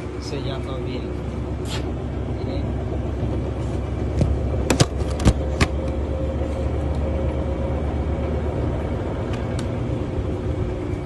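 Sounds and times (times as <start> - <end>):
washing machine spinning: 0.0 - 11.0.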